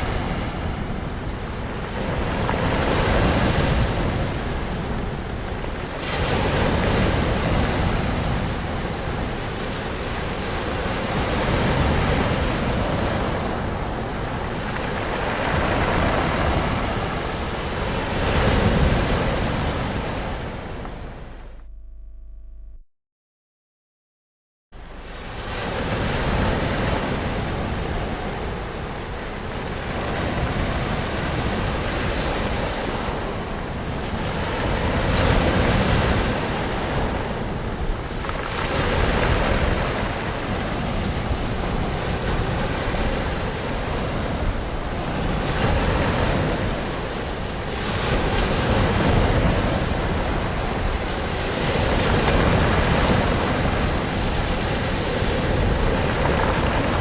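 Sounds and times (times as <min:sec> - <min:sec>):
ocean waves breaking: 0:00.0 - 0:21.6, 0:24.8 - 0:57.0.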